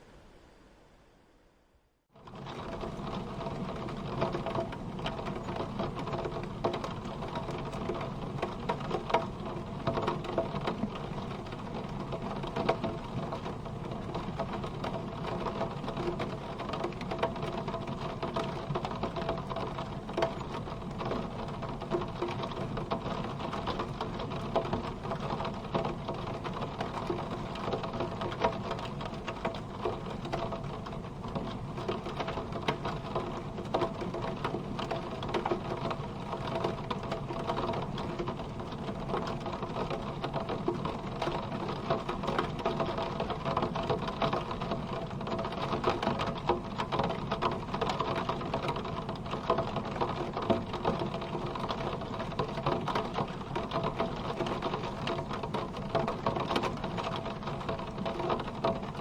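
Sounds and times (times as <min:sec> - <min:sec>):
rain drumming on car roof: 0:02.1 - 0:59.0.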